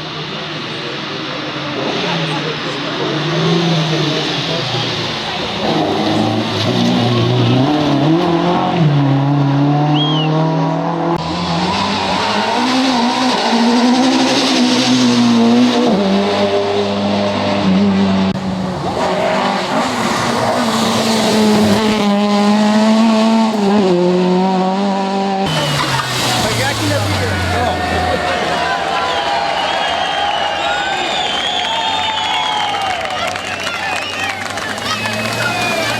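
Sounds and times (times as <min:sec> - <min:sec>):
rally car engines revving: 0:00.0 - 0:35.9
tyre and road noise: 0:00.0 - 0:35.9.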